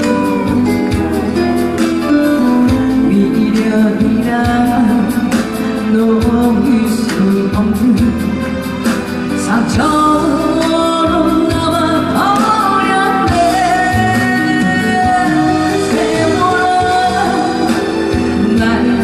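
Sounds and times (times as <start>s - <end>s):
backing track with beat: 0.0s - 19.0s.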